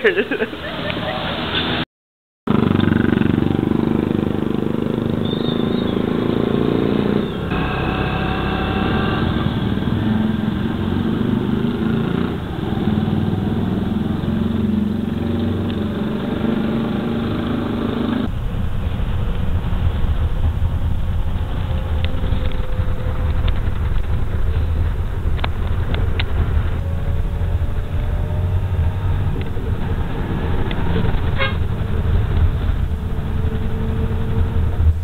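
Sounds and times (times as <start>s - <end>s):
vehicle engine and road noise: 0.4s - 1.8s, 2.5s - 35.0s.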